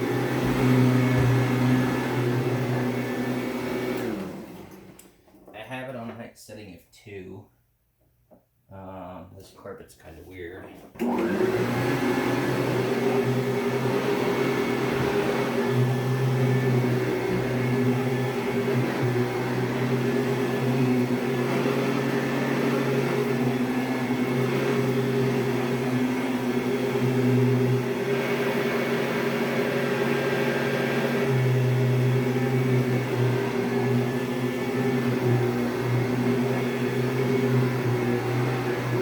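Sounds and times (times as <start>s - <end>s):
upright vacuum cleaner on carpet: 0.0s - 5.4s, 10.9s - 39.0s.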